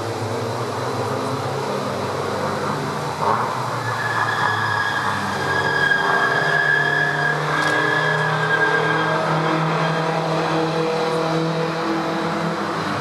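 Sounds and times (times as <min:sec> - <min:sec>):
race car engines running: 0:00.0 - 0:13.0.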